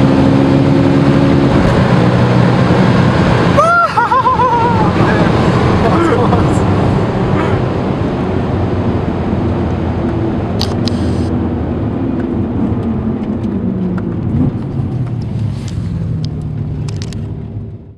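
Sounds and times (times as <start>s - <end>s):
car engine from inside cabin: 0.0s - 3.6s, 4.5s - 17.9s.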